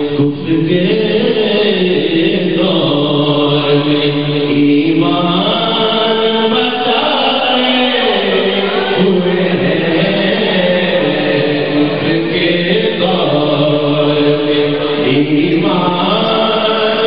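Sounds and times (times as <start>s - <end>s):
man singing long held notes: 0.0s - 17.0s.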